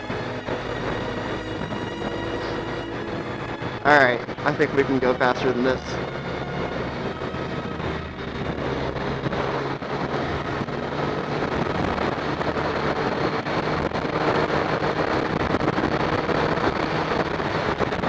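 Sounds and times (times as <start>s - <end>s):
motorcycle engine at speed: 0.0s - 5.1s, 5.7s - 18.0s
wind noise on microphone: 0.0s - 18.0s.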